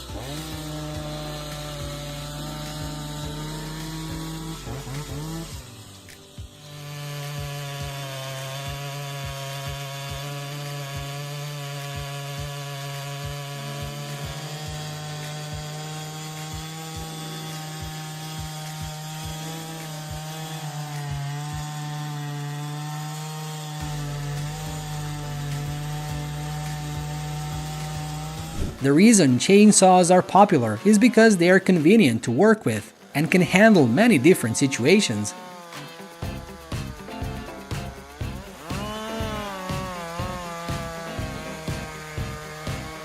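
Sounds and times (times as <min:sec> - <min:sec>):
chainsaw cutting wood: 0:00.0 - 0:43.0.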